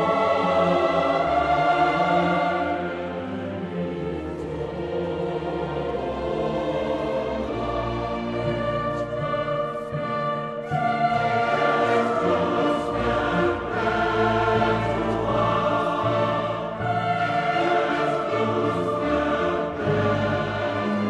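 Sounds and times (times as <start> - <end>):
choir singing sustained lines: 0.0 - 21.0
orchestral accompaniment: 0.0 - 21.0.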